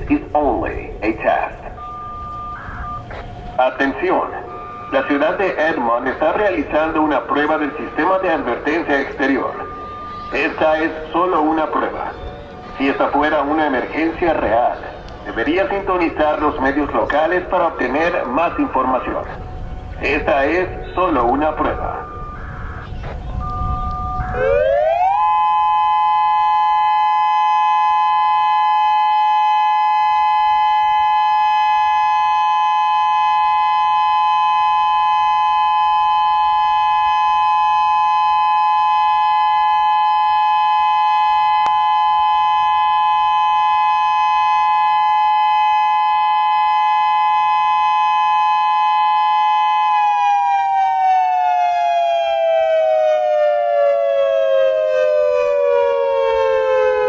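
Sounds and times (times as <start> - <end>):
two-tone warning siren: 0.0 - 57.0.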